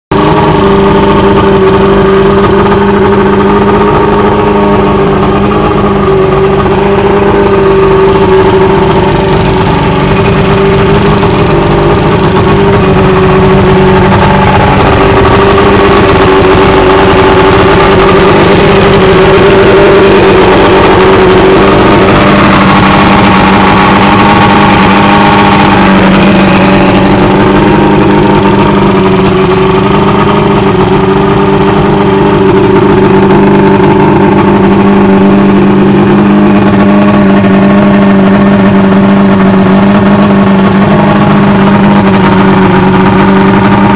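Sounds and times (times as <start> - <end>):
outboard motor idling: 0.1 - 43.9.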